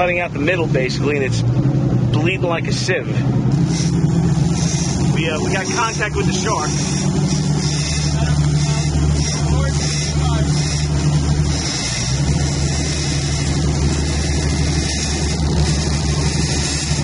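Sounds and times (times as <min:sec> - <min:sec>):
boat engine droning: 0:00.0 - 0:17.0
water rushing along hull: 0:01.4 - 0:17.0.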